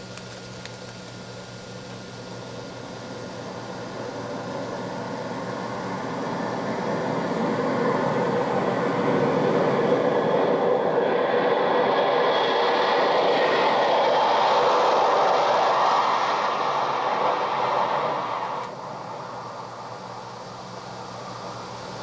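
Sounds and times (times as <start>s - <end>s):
train approaching: 2.8s - 22.0s.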